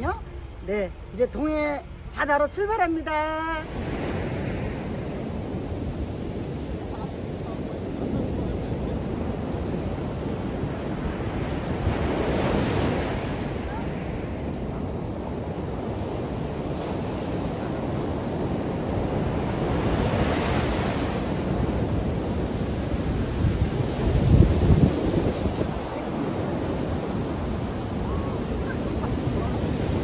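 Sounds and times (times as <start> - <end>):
ocean waves breaking on beach: 3.5 - 30.0
wind buffeting microphone: 3.6 - 30.0.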